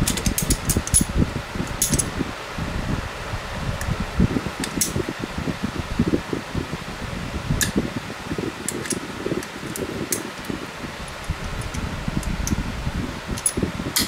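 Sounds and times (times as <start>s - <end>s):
electric fan blowing air: 0.0s - 14.0s.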